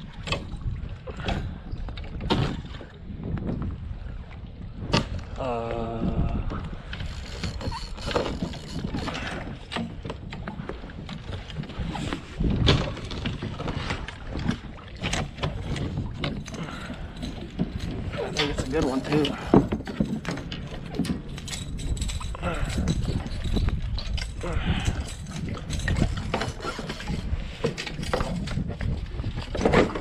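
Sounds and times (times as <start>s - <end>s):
water sloshing: 0.0s - 30.0s
wind noise on microphone: 0.0s - 30.0s.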